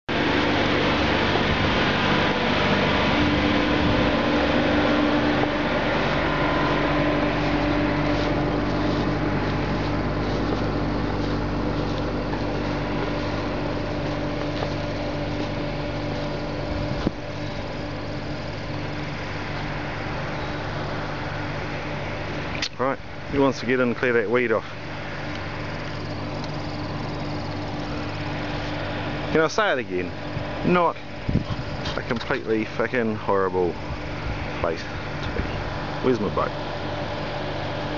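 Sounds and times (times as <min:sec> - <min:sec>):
motor droning: 0:00.0 - 0:37.9.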